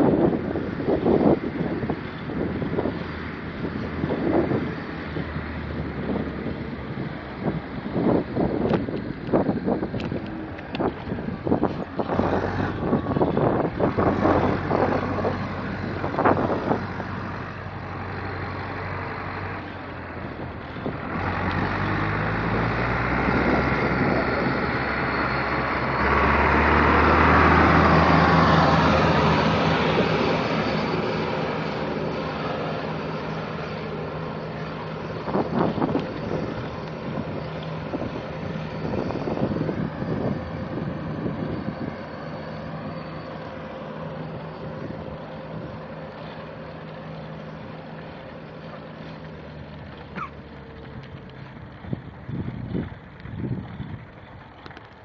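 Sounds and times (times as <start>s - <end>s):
wind buffeting microphone: 0.0s - 55.0s
motor vehicle passing: 1.8s - 54.9s.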